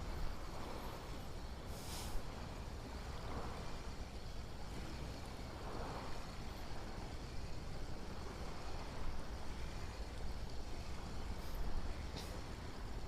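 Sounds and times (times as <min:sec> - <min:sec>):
steady outdoor wash: 0:00.0 - 0:13.0
wind rumbling on microphone: 0:00.0 - 0:13.0.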